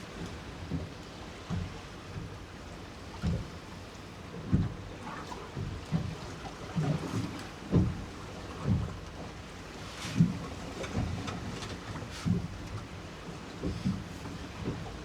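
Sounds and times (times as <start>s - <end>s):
waves slapping boat hull: 0.1s - 15.0s.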